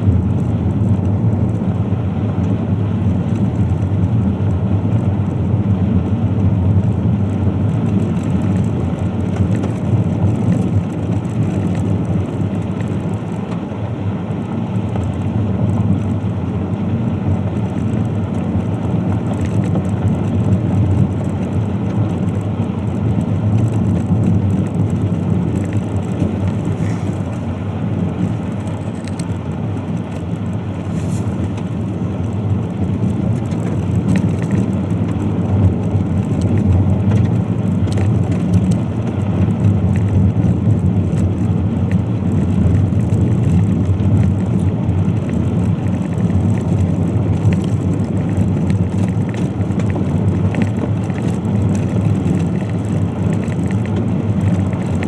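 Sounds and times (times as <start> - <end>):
car rumbling on gravel: 0.0 - 55.0.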